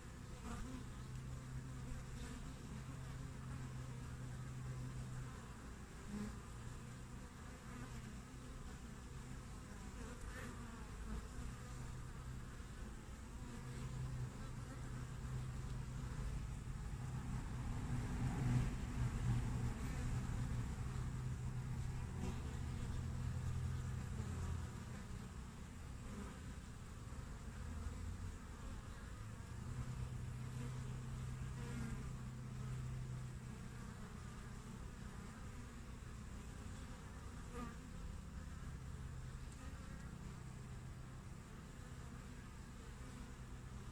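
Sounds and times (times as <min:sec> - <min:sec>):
honeybees buzzing: 0:00.0 - 0:43.9
single bees flying past: 0:00.0 - 0:43.9.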